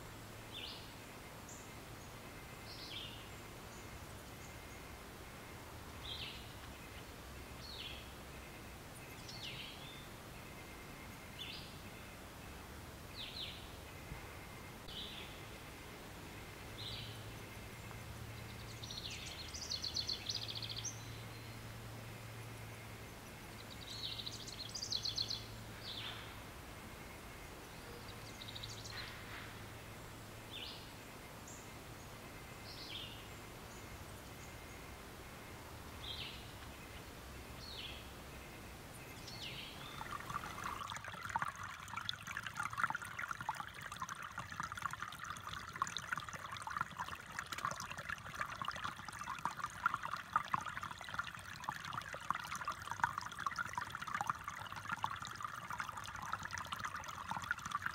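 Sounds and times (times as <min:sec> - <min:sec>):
creek trickling over stones: 0:00.0 - 0:30.8, 0:35.7 - 0:57.9.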